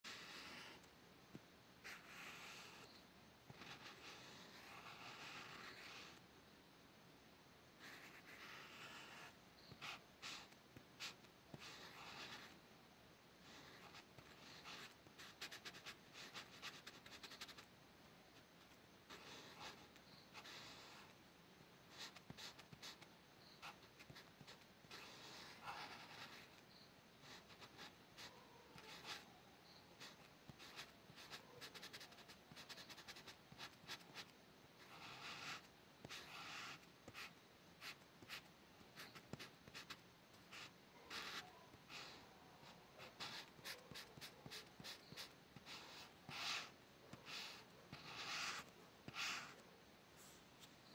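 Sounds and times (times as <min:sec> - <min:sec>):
pen scratching on paper: 0:00.1 - 0:00.9, 0:01.8 - 0:06.2, 0:07.8 - 0:12.6, 0:13.4 - 0:17.7, 0:19.1 - 0:21.1, 0:21.9 - 0:26.6, 0:27.2 - 0:29.3, 0:30.0 - 0:49.6.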